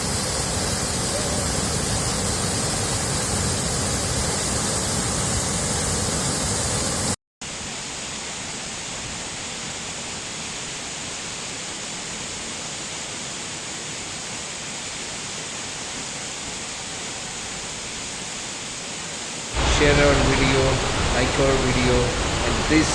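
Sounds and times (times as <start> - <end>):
waterfall rushing: 0.0 - 7.2, 8.0 - 22.9.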